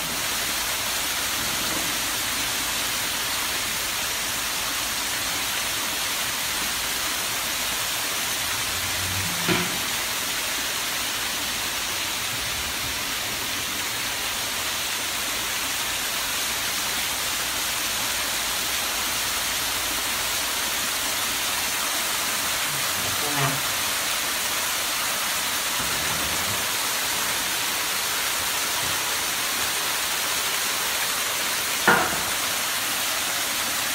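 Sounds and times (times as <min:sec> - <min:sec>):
small waterfall splashing: 0:00.0 - 0:33.9.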